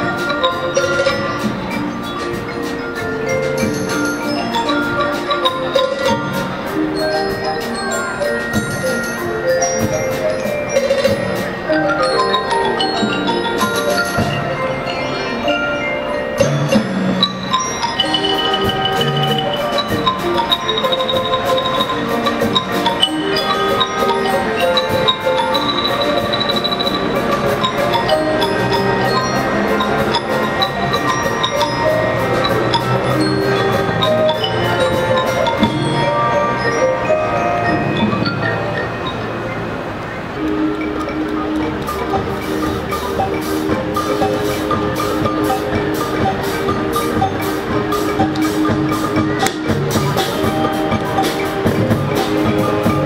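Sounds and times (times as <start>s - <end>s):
mallet percussion band playing: 0.0s - 53.0s.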